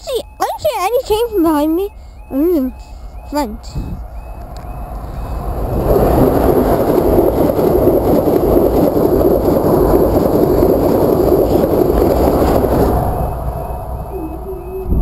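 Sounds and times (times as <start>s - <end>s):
train passing at speed: 1.2s - 15.0s.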